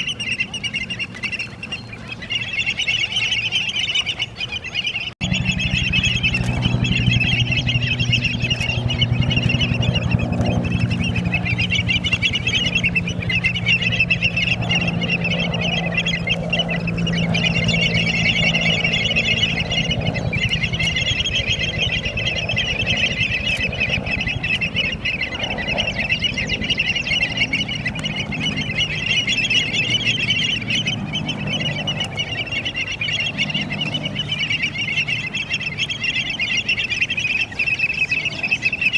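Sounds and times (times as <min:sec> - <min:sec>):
flock of birds chattering: 0:00.0 - 0:38.9
steady low hum: 0:00.0 - 0:38.9.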